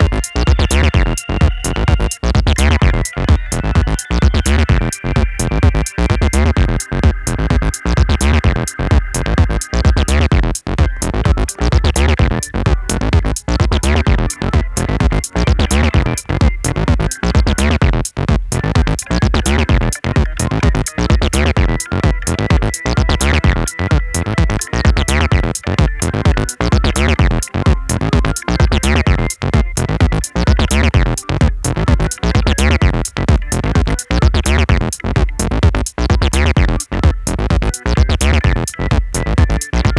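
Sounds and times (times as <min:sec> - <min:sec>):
electronic instrumental music: 0:00.0 - 0:39.9.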